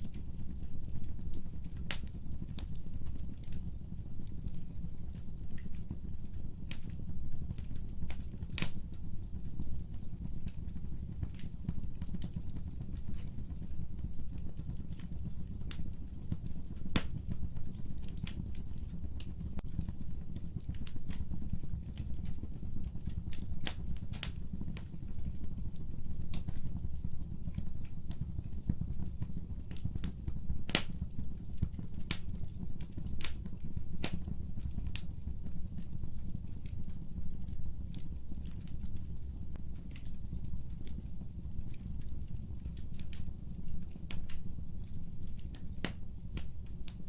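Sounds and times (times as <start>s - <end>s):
fire crackling and popping: 0.0s - 47.0s.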